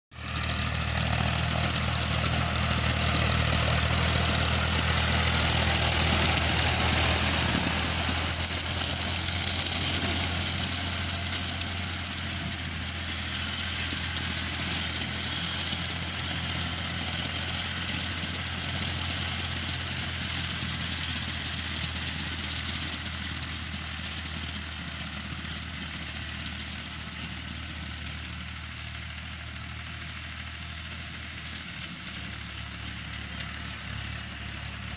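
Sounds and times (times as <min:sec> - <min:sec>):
tractor diesel engine droning: 0:00.1 - 0:34.9.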